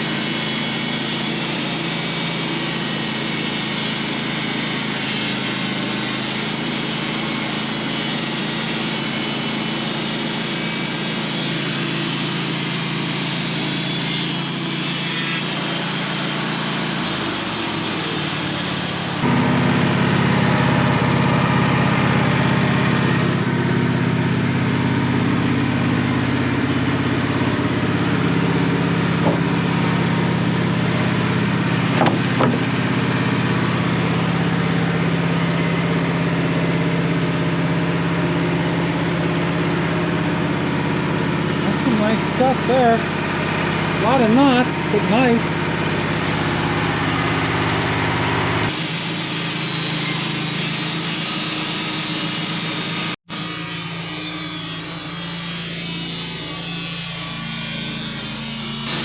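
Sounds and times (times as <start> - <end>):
saw blade cutting log: 0.0 - 59.0
sawmill engine running: 0.0 - 59.0.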